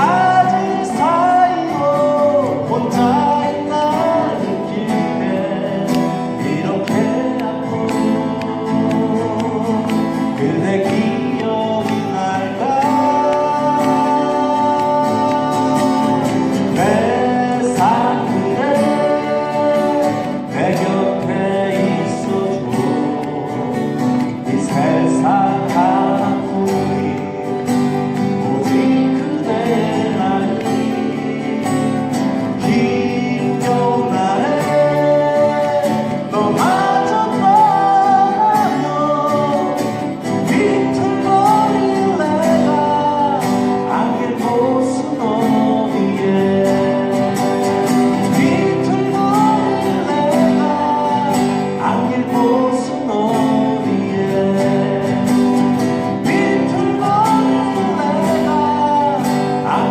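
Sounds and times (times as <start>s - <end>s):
person singing: 0.0s - 59.9s
strummed acoustic guitar: 0.0s - 59.9s.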